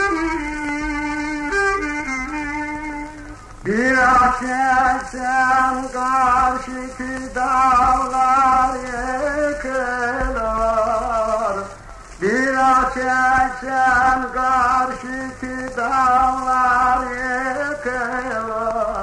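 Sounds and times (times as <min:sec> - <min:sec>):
man singing folk song: 0:00.0 - 0:19.0
record surface hiss: 0:00.0 - 0:19.0.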